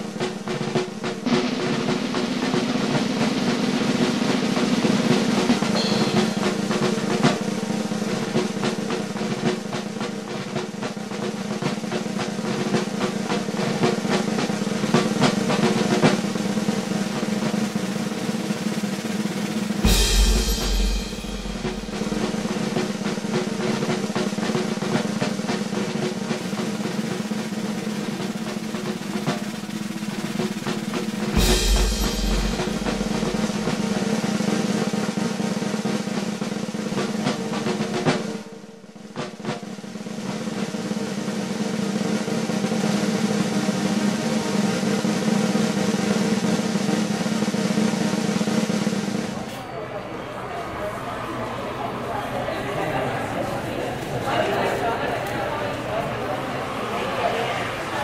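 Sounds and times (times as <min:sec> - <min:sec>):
fast snare drum rolls: 0:00.0 - 0:49.6, 0:56.7 - 0:58.0.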